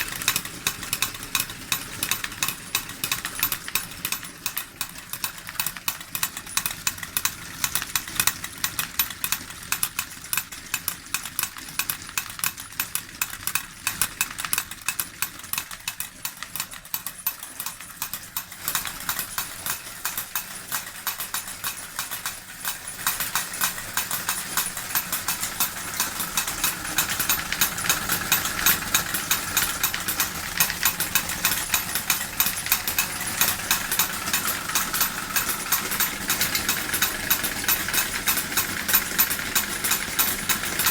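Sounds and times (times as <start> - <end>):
model steam engine running: 0.0 - 40.9.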